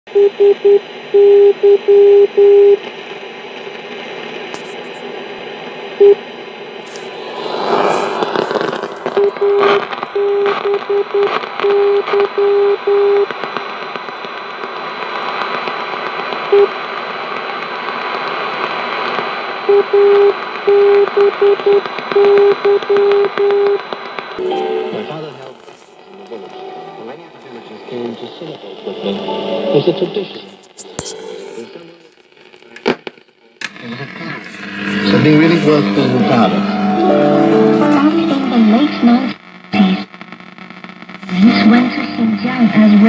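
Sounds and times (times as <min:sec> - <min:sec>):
radio static hiss: 0:00.8 - 0:19.7, 0:24.1 - 0:43.0.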